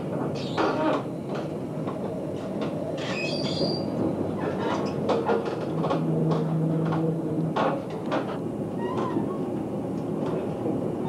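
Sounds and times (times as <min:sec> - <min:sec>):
wheels clicking over rail joints: 0:00.0 - 0:09.3
train running rumble: 0:00.0 - 0:11.0.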